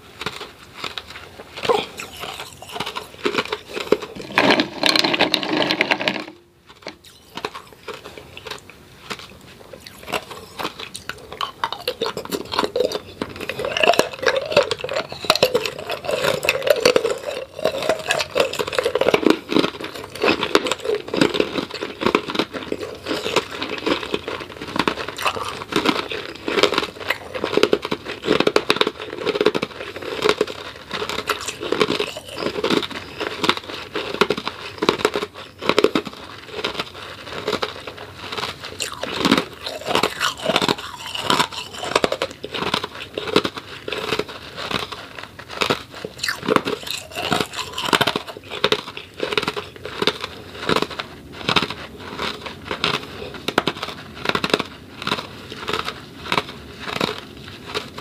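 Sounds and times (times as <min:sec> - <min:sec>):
ice cubes crunched by chewing: 0:00.0 - 0:58.0.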